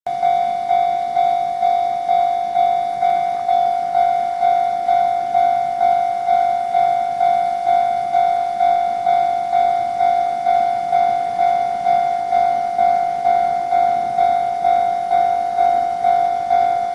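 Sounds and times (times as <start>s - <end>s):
level-crossing warning bell: 0.1s - 16.9s.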